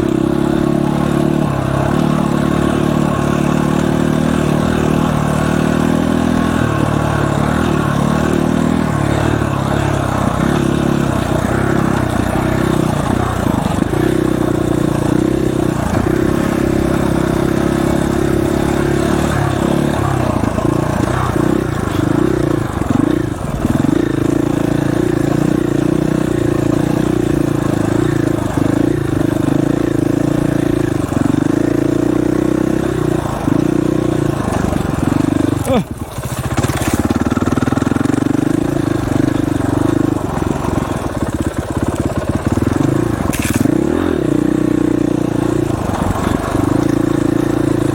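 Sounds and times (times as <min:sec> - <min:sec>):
dirt bike engine running: 0:00.0 - 0:47.9.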